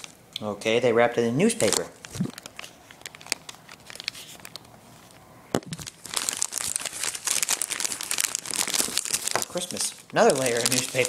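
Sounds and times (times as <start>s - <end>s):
paper crumpling: 1.5s - 11.0s.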